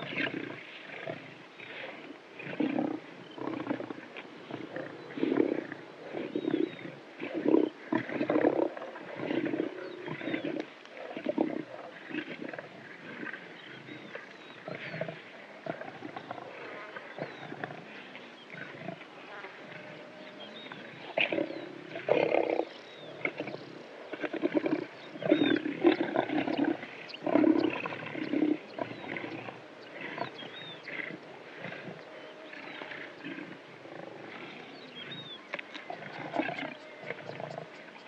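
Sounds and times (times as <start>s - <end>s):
lions growling and panting: 0.0s - 38.0s.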